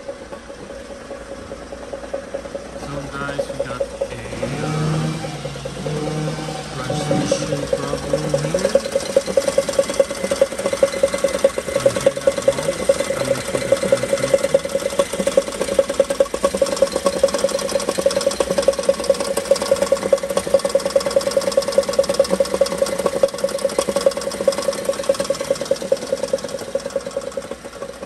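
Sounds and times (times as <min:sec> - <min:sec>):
car engine hum: 0:00.0 - 0:28.0
fast rattling knock: 0:00.0 - 0:28.0.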